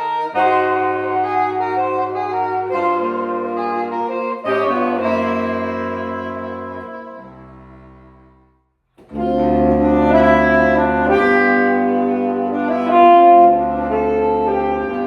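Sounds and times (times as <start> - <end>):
jazz quartet playing: 0.0 - 8.2, 9.0 - 15.0
saxophone melody: 0.0 - 8.4, 9.0 - 15.0.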